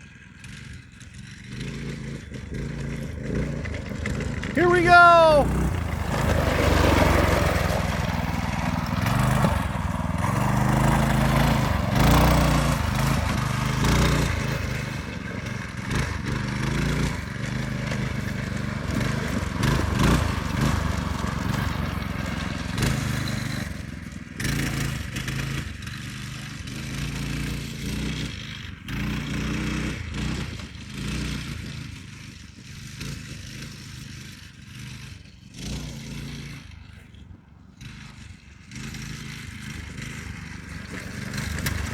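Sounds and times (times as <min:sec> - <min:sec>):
go-kart engine revving: 0:00.0 - 0:41.9
kart rattling over bumps: 0:00.0 - 0:41.9.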